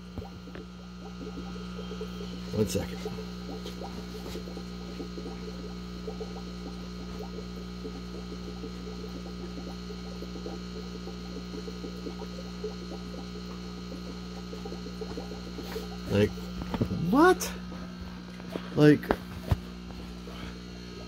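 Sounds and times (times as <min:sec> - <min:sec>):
air pump humming: 0:00.0 - 0:21.0
water bubbling: 0:00.0 - 0:21.0.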